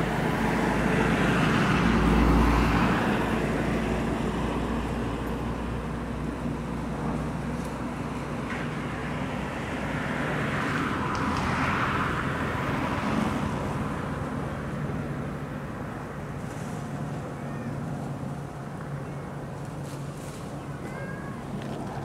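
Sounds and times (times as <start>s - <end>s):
distant engine hum: 0.0s - 22.0s.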